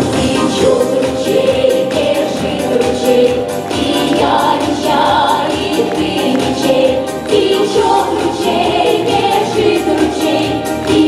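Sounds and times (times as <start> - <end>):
women's choir singing folk song: 0.0 - 11.0.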